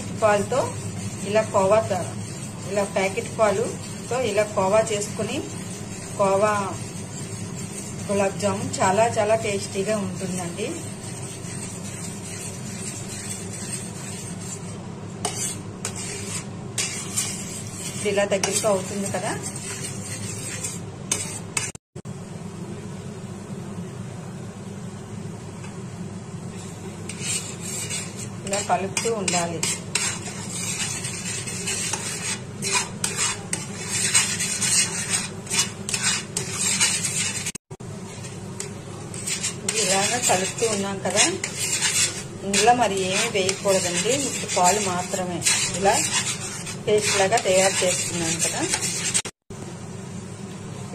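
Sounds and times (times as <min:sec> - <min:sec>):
spatula scraping pan: 0:00.0 - 0:21.8, 0:26.5 - 0:49.4
steady low hum: 0:00.0 - 0:50.9.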